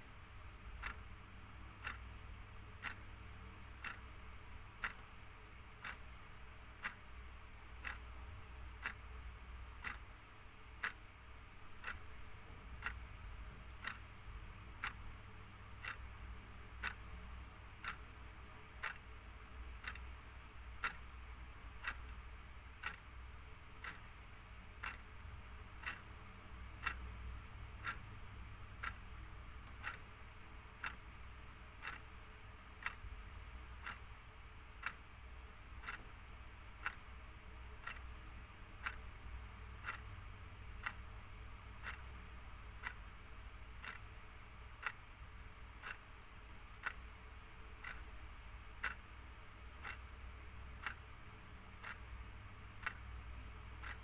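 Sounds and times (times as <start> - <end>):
faint low hum: 0.0 - 54.0
clock ticking: 0.5 - 54.0.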